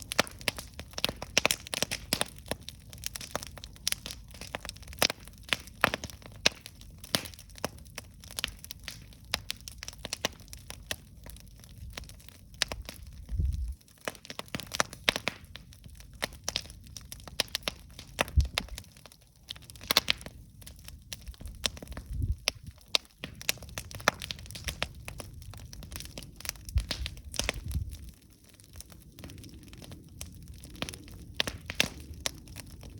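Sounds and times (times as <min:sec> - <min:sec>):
campfire popping and crackling: 0:00.0 - 0:32.9
low fire rumble: 0:00.0 - 0:32.9.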